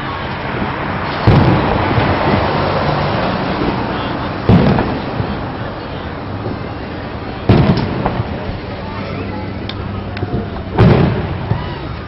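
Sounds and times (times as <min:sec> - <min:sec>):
crowd chatter: 0:00.0 - 0:12.0
fireworks booming: 0:00.0 - 0:12.0.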